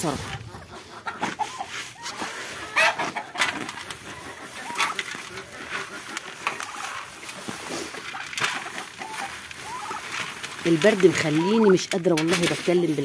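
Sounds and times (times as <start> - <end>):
chickens and ducks calling: 0.0 - 13.0.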